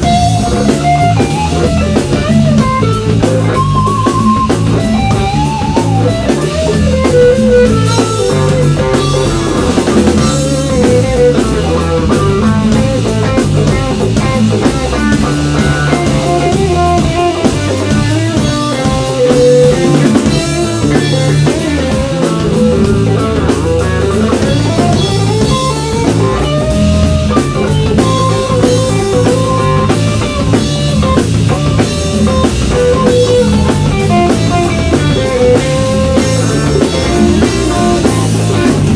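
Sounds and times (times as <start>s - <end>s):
drum kit: 0.0s - 38.9s
electric bass: 0.0s - 38.9s
electric guitar lead with bent notes: 0.0s - 38.9s.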